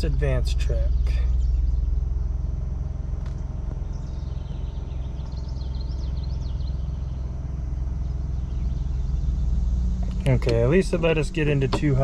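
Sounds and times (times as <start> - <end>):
car engine idling: 0.0 - 12.0
birds chirping faintly: 0.1 - 12.0.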